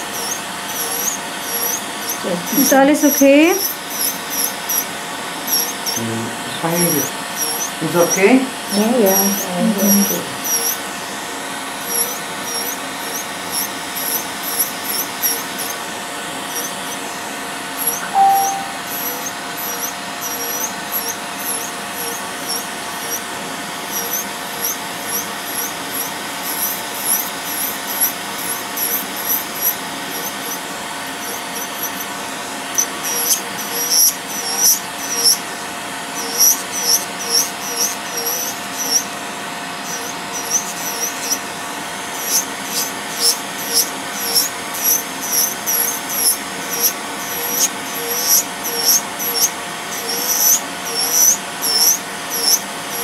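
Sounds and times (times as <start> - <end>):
burr squeaking on nail: 0.0 - 4.9, 5.5 - 10.9, 11.8 - 15.8, 16.5 - 17.2, 17.8 - 23.3, 23.9 - 32.1, 32.8 - 35.4, 36.1 - 39.2, 39.8 - 41.5, 42.1 - 53.0
nail drill whining: 0.0 - 53.0.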